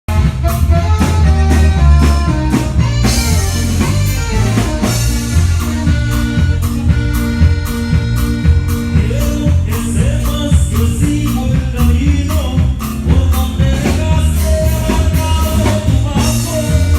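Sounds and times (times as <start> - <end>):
drum kit beat: 0.1 - 16.9
loud music: 0.1 - 16.9.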